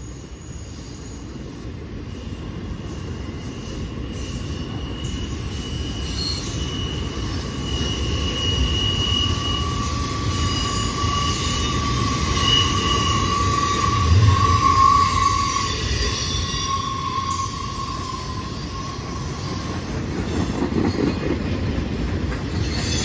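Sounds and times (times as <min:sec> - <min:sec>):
freight train rumbling on rails: 0:00.0 - 0:23.0
steel wheel squeal: 0:00.4 - 0:21.6, 0:22.2 - 0:23.0.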